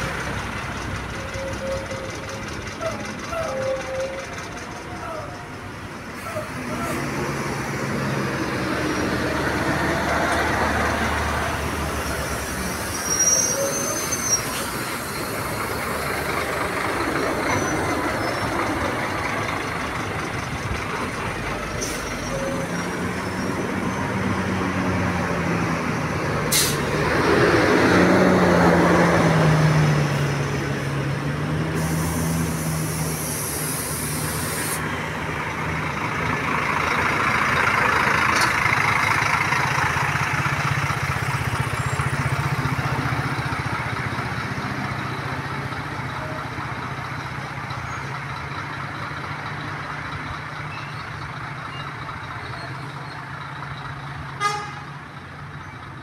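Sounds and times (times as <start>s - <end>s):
diesel bus engine hum: 0.0s - 56.0s.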